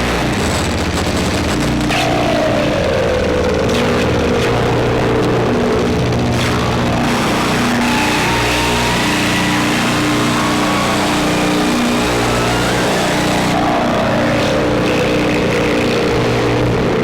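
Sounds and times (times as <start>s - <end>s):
electronic noise drone: 0.0s - 17.0s
low repeating synth tones: 1.4s - 17.0s.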